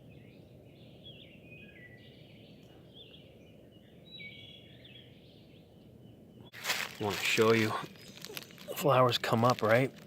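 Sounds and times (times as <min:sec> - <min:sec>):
songbirds chirping and warbling: 0:00.0 - 0:10.0.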